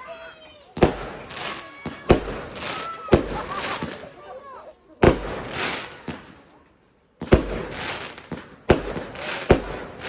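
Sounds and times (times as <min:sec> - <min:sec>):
fireworks banging and crackling: 0:00.0 - 0:10.0.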